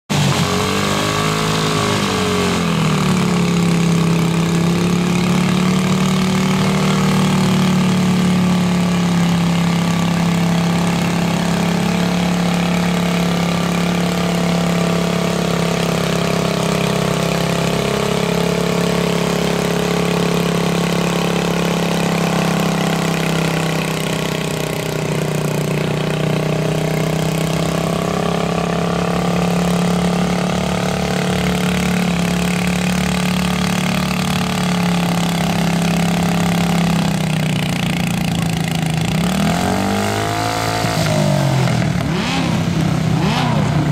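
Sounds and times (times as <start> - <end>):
small engine revving and idling: 0.1 - 43.9.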